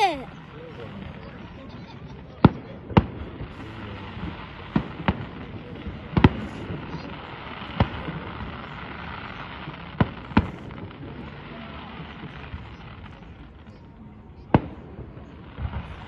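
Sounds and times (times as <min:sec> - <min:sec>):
distant fireworks bangs: 0:02.4 - 0:13.8, 0:14.4 - 0:16.0.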